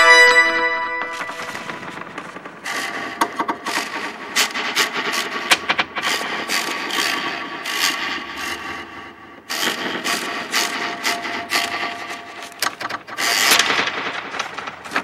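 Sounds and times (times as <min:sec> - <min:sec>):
experimental clattering and scraping: 0:00.0 - 0:15.0.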